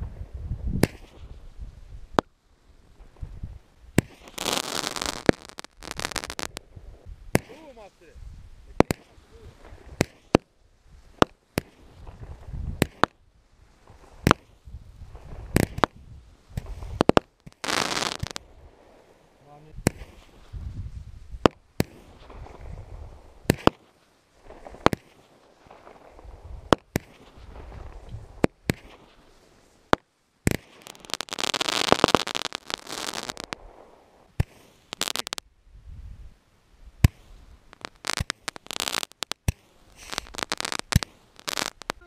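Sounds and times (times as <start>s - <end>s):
fireworks bangs: 0.0s - 2.3s, 2.9s - 8.1s, 8.7s - 13.2s, 13.8s - 20.7s, 21.4s - 35.4s, 37.0s - 42.0s
dense fireworks crackling: 0.0s - 42.0s
fireworks hissing: 4.0s - 13.1s, 13.7s - 35.4s, 37.0s - 42.0s.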